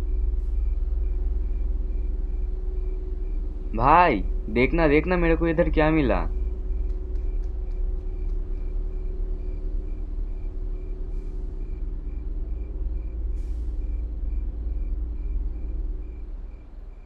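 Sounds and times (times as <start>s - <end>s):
deep rumble: 0.0s - 17.0s
faint high ticking pulse: 0.0s - 17.0s
low droning score: 0.0s - 17.0s.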